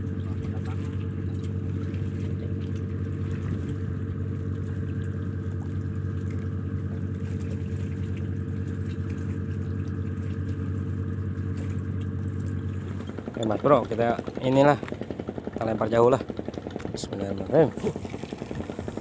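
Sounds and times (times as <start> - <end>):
machine engine droning: 0.0 - 19.0.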